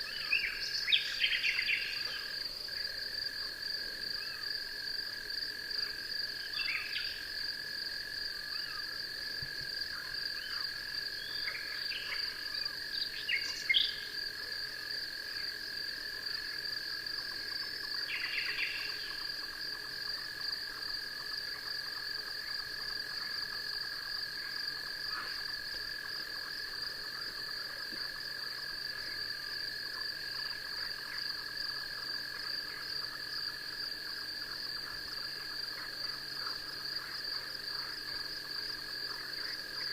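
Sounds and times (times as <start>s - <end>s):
high insect trill: 0.0s - 39.9s
lower insect trill: 0.0s - 39.9s.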